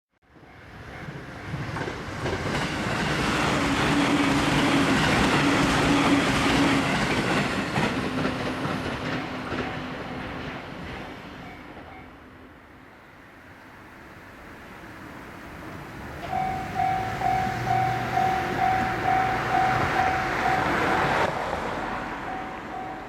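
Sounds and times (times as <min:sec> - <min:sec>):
train wheels rumbling on rails: 0:00.3 - 0:12.3, 0:15.4 - 0:23.0.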